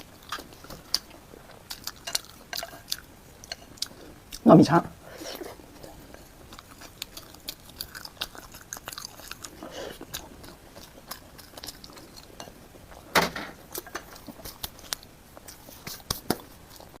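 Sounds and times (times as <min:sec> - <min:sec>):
person chewing and smacking: 0:00.0 - 0:04.5, 0:05.4 - 0:17.0.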